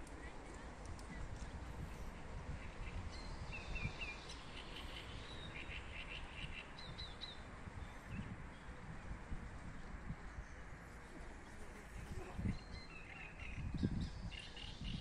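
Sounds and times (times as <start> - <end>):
small birds chirping: 0.0 - 8.9, 9.7 - 15.0.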